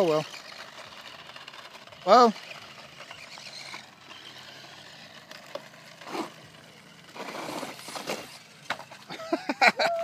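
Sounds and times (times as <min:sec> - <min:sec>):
toy truck tyres scrabbling on dirt: 0:00.0 - 0:09.5.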